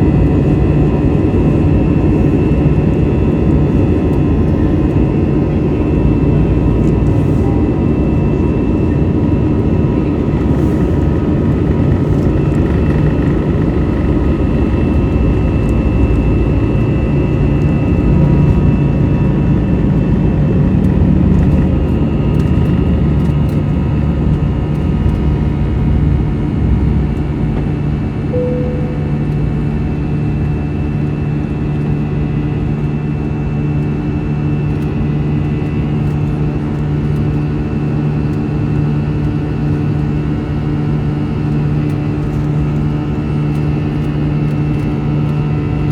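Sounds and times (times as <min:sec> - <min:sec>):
jet engine cabin drone: 0:00.0 - 0:45.9.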